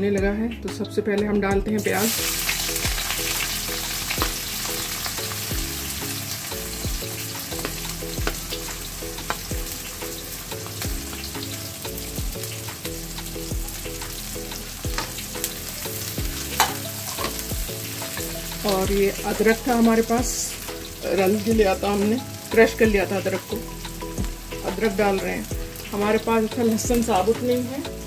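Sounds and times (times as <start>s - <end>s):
background music: 0.0s - 28.0s
onions sizzling in hot oil: 1.8s - 28.0s.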